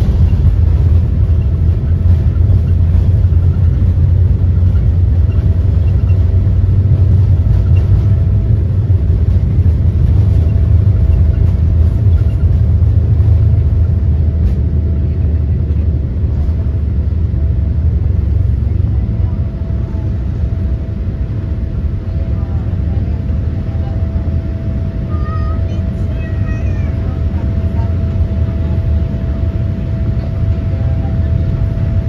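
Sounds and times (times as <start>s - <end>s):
deep rumble of engines and wheels: 0.0s - 32.0s.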